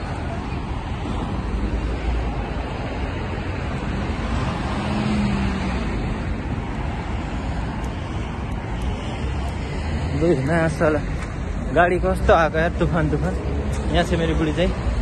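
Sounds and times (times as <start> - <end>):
rumble of passing cars: 0.0 - 15.0
vehicle engine hum: 0.0 - 15.0.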